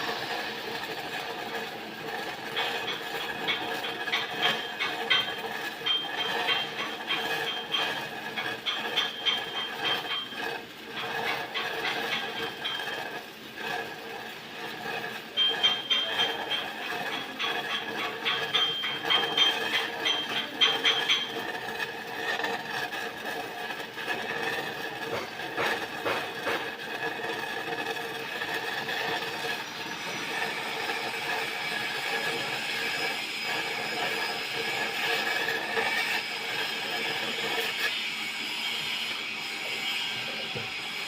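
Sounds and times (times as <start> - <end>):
welding arc crackling: 0.0 - 39.8.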